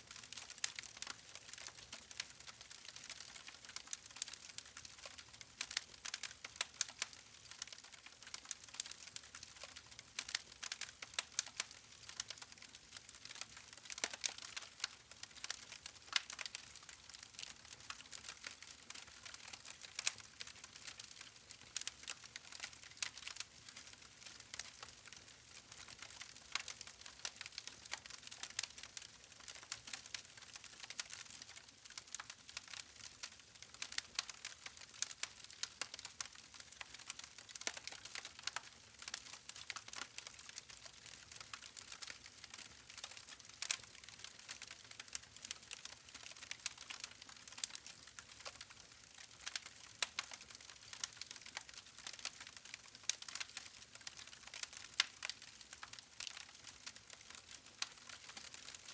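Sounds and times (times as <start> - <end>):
campfire crackling and popping: 0.1 - 58.9.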